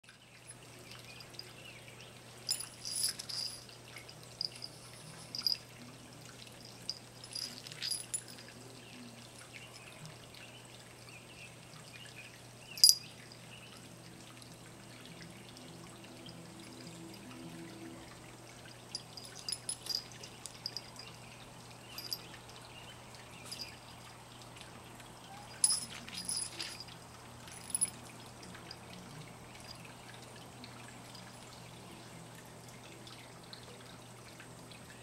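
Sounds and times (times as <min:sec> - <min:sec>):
faint steady hum: 0:00.1 - 0:35.0.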